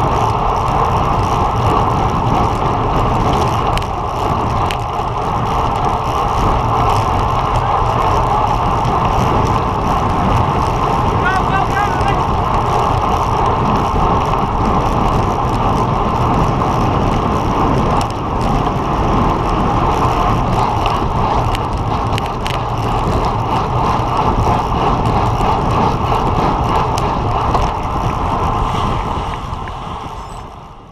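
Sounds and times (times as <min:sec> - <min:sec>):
tyre and road noise: 0:00.0 - 0:30.9
wind rushing over microphone: 0:00.0 - 0:30.9.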